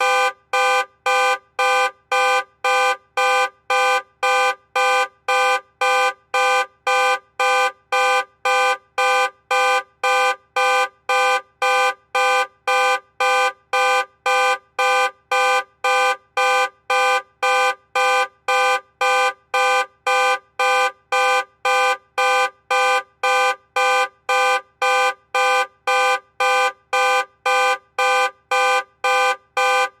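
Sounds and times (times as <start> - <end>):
car alarm horn honking: 0.0 - 30.0.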